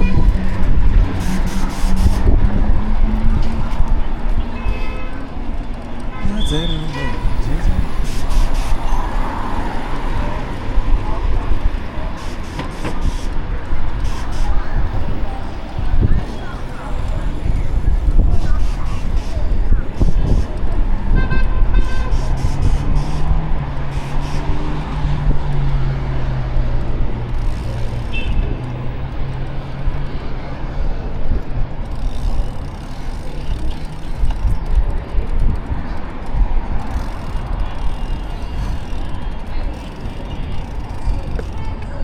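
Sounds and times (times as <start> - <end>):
road traffic rumble: 0.0 - 42.0.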